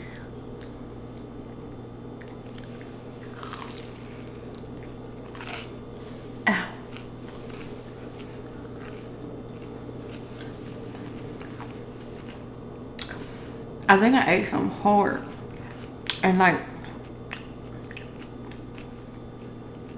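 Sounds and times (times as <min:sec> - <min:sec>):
person chewing noodles: 0:00.5 - 0:13.6, 0:15.3 - 0:19.9.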